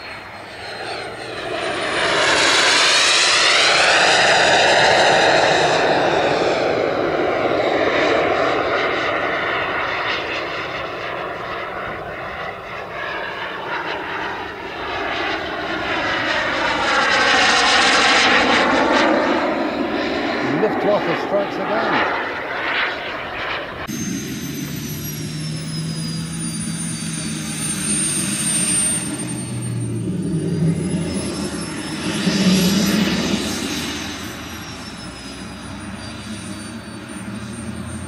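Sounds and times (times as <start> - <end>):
model jet turbine flying past: 0.0 - 38.0.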